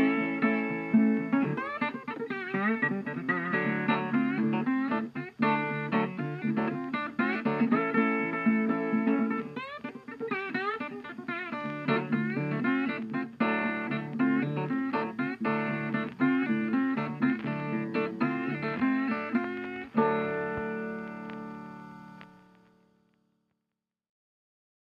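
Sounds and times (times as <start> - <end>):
plucked guitar melody with bent notes: 0.0 - 23.2.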